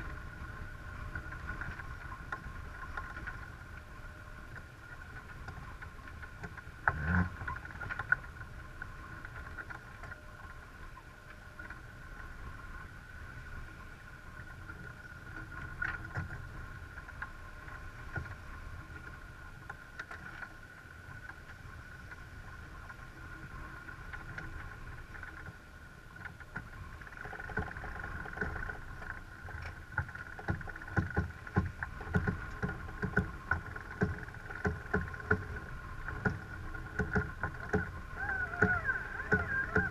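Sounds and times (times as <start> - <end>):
wind and water rushing past hull: 0.0 - 39.9.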